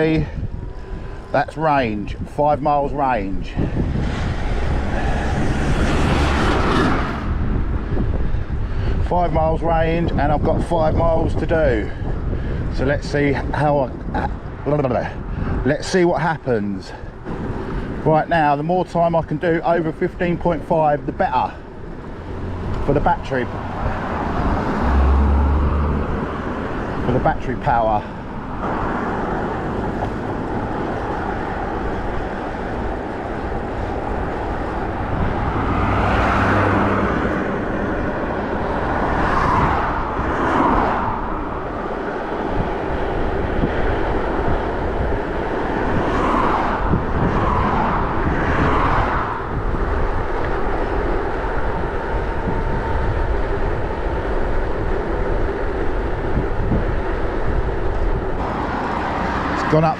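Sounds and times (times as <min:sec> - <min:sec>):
bike road noise: 0:00.0 - 0:59.9
rushing wind: 0:00.0 - 0:59.9.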